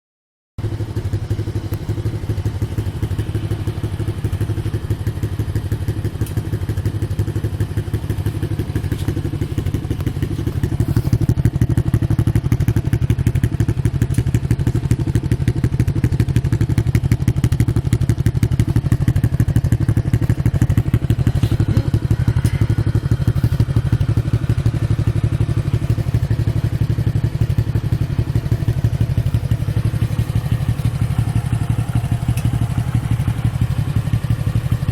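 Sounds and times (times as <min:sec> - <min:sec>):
motorcycle engine running: 0:00.6 - 0:34.9.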